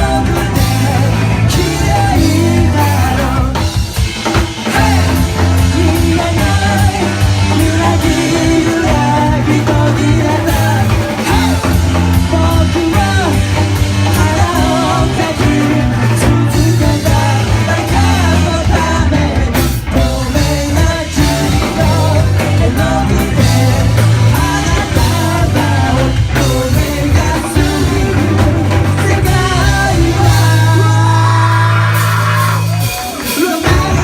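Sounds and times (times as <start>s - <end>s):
person singing: 0.0s - 34.0s
rock band playing: 0.0s - 34.0s.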